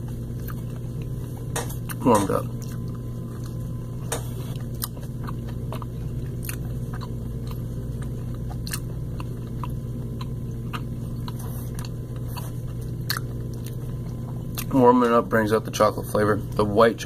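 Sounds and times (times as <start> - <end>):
person chewing: 0.0 - 14.8
low steady hum: 0.0 - 17.0.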